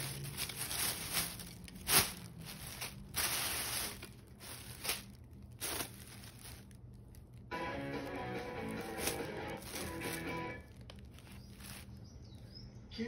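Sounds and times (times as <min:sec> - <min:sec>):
plastic bags crinkling: 0:00.0 - 0:12.1.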